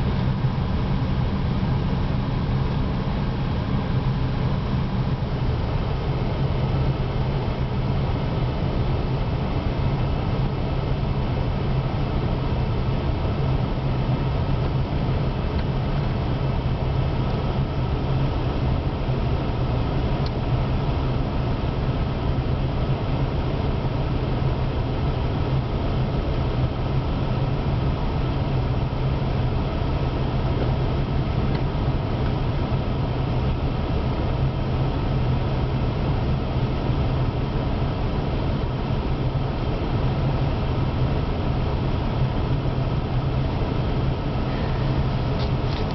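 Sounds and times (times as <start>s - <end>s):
car engine idling inside cabin: 0.0s - 45.9s.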